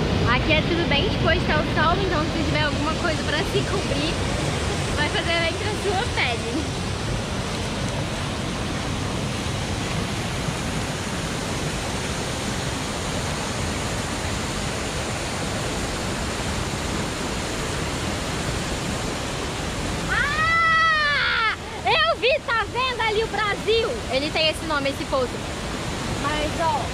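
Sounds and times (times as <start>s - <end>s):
waterfall and rapids rushing: 0.0s - 26.9s.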